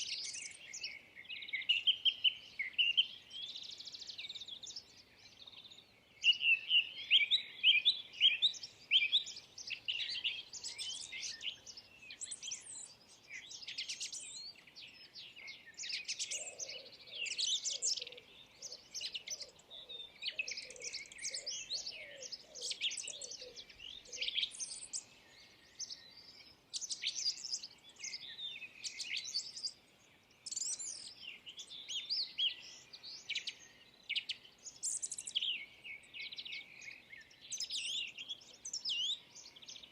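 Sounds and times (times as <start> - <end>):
low faint repeated bird notes: 0.0 - 39.9
small birds chirping and singing: 0.0 - 39.9.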